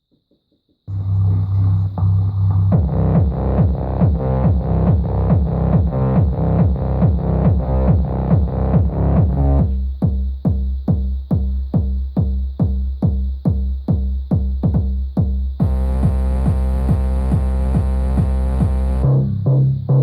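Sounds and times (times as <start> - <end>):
electronic dance music on speaker: 0.9 - 20.0.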